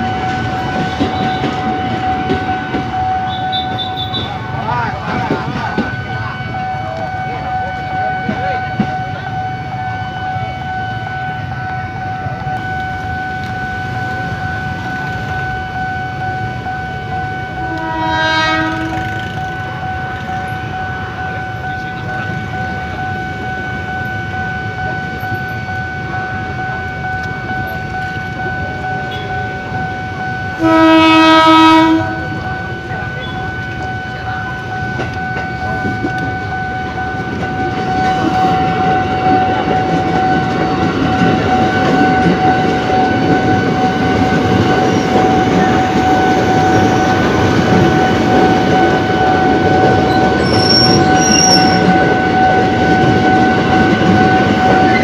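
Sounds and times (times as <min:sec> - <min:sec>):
train horn blasts: 0:00.0 - 0:04.6, 0:05.4 - 0:55.0
level-crossing alarm tone: 0:00.0 - 0:55.0
train rumbling: 0:00.0 - 0:55.0.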